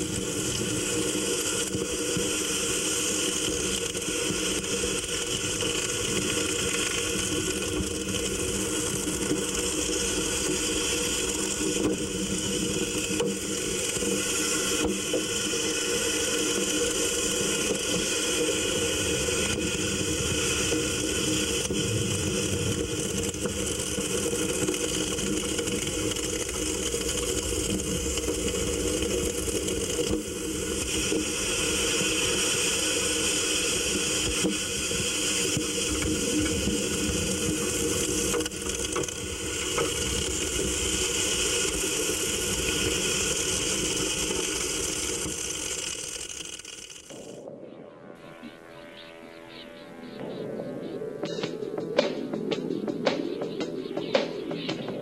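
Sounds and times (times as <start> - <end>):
mechanical drone with hiss: 0.0 - 55.0.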